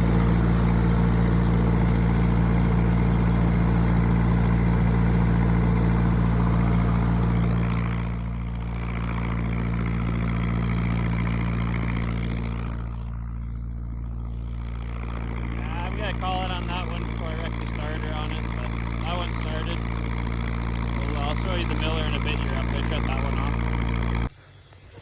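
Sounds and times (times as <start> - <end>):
welder gas engine running: 0.0 - 25.0.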